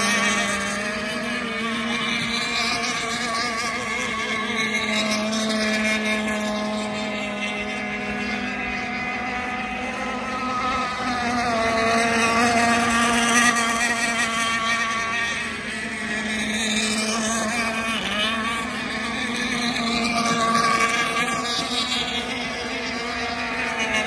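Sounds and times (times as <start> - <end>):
model boat engine droning: 0.0 - 24.0.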